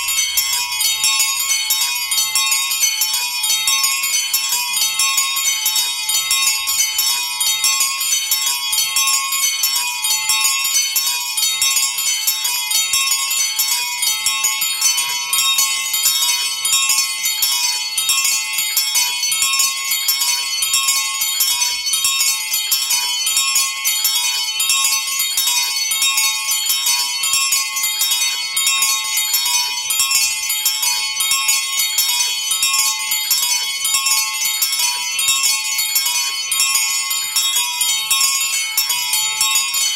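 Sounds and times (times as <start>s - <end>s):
small bells ringing: 0.0s - 39.9s.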